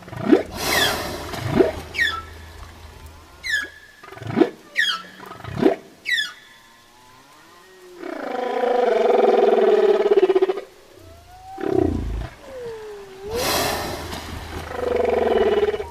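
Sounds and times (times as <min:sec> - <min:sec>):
whale calls: 0:00.0 - 0:15.9.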